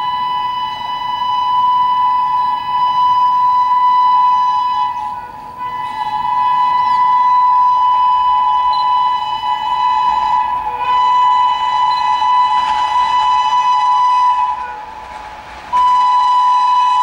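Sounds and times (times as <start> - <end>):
locomotive air horn blast: 0.0 - 17.0.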